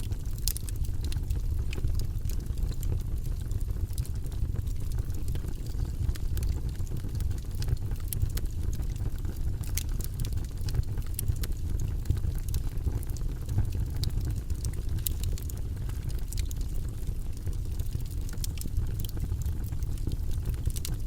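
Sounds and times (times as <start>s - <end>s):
campfire crackling and popping: 0.0s - 21.0s
low rumble of burning flames: 0.0s - 21.0s.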